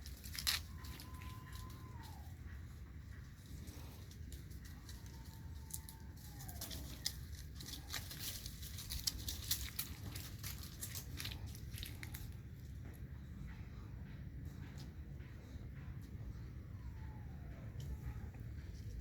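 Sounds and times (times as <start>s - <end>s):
crunching and crackling clicks: 0.0s - 15.3s.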